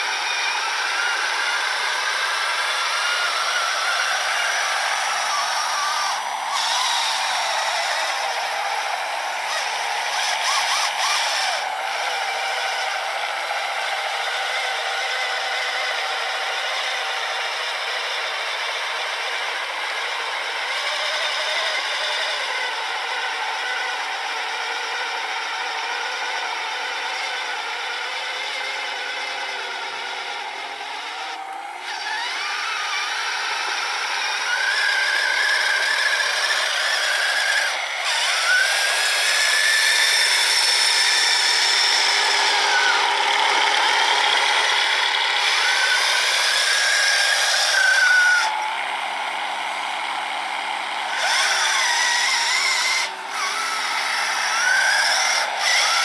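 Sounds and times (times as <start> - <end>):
small electric motors whining: 0.0 - 56.0.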